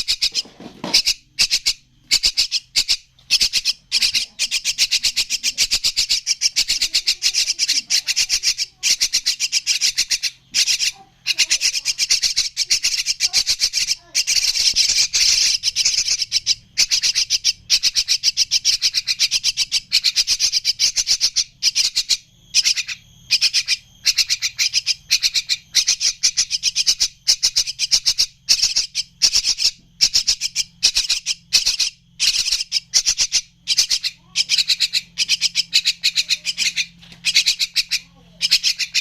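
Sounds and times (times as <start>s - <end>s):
bird chicks chattering: 0.0s - 39.0s.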